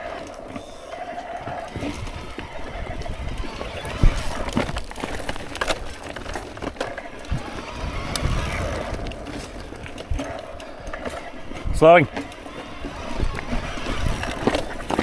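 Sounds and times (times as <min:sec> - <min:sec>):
bike tyres on roots and rocks: 0:00.0 - 0:15.0
chain and frame rattling: 0:00.0 - 0:15.0.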